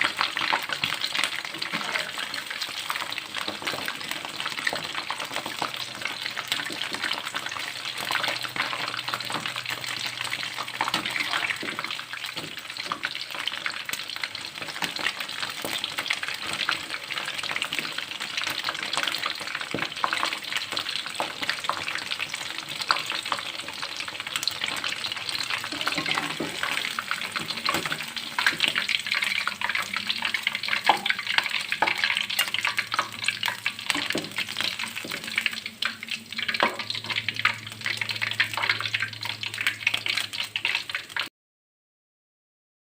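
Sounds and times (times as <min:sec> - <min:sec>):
shrimp deep-frying in hot oil: 0:00.0 - 0:41.3.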